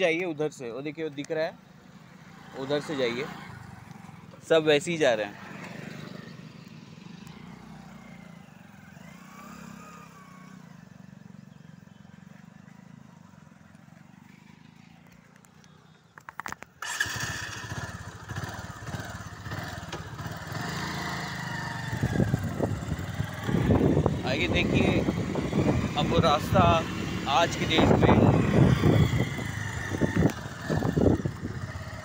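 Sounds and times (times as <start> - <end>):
motorcycle engine running: 5.4 - 32.0.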